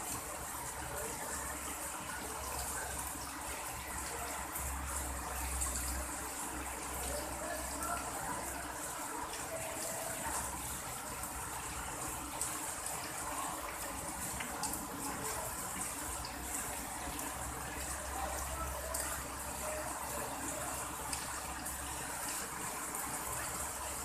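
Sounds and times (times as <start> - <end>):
heavy rain on concrete: 0.0 - 24.0.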